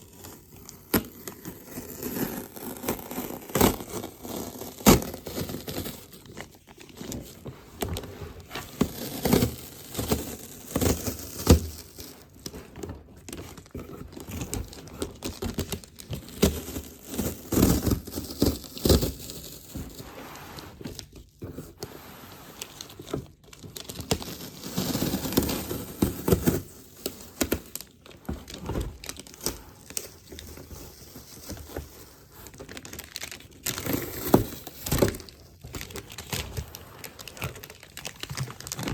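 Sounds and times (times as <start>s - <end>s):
packaging crinkling and tearing: 0.0s - 20.0s, 22.6s - 38.9s.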